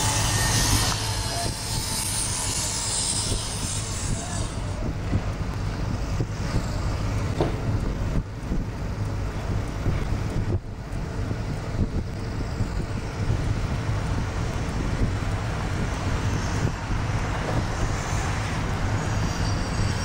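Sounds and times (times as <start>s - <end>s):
car engine rumble: 0.0s - 20.0s
road and wind noise: 0.0s - 20.0s.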